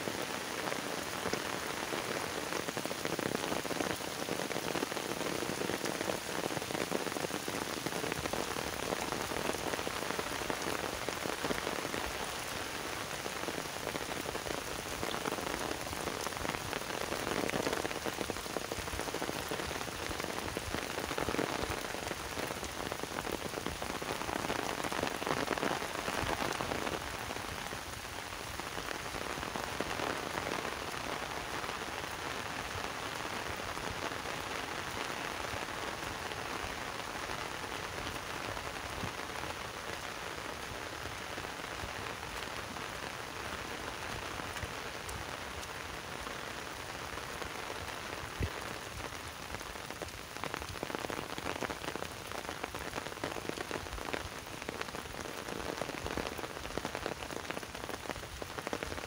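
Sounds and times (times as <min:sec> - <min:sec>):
heavy rain falling on trees: 0:00.0 - 0:59.0.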